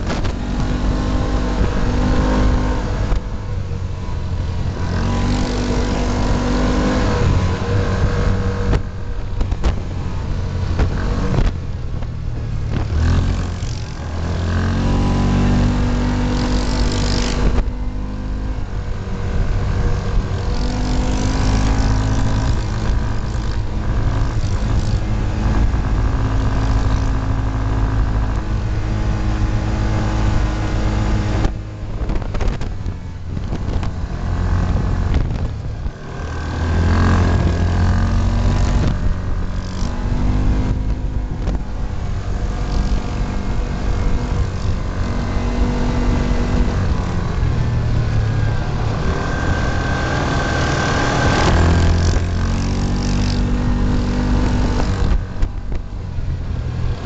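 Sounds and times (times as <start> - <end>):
road noise rumble: 0.0 - 57.0
vehicle engine running: 0.0 - 57.0.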